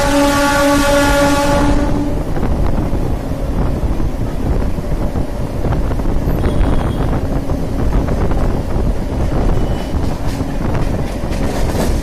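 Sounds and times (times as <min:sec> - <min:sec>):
train rumbling: 0:00.0 - 0:12.0
wind buffeting microphone: 0:00.0 - 0:12.0.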